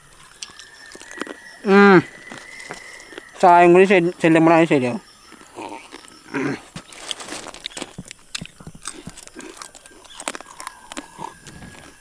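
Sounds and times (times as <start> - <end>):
crisp chips being chewed: 0.0 - 3.5, 5.1 - 12.0.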